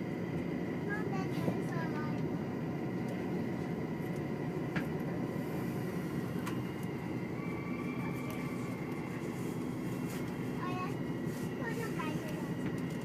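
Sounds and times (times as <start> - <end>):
diesel train rumble: 0.0 - 13.0.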